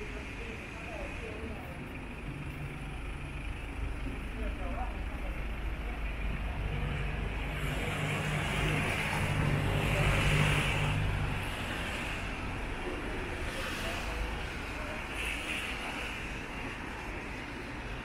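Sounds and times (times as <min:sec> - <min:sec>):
large vehicle engine hum: 0:00.0 - 0:18.0
steady traffic noise: 0:00.0 - 0:18.0.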